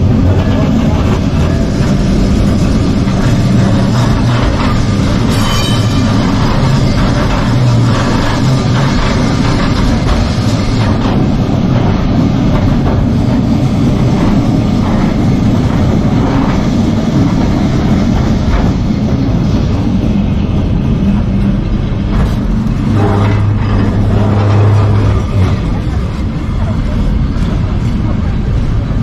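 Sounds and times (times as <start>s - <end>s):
tram rumbling on rails: 0.0s - 29.0s.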